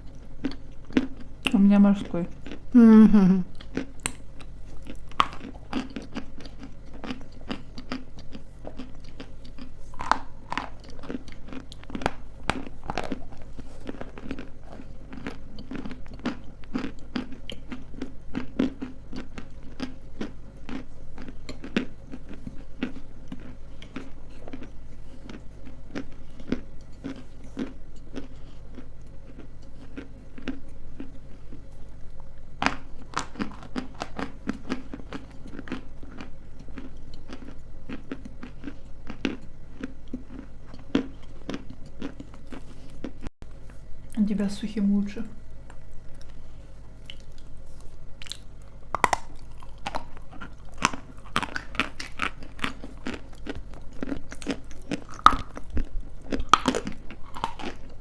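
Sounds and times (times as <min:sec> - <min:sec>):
crunchy chewing: 0:00.0 - 0:02.8, 0:03.5 - 0:44.2, 0:45.6 - 0:58.0.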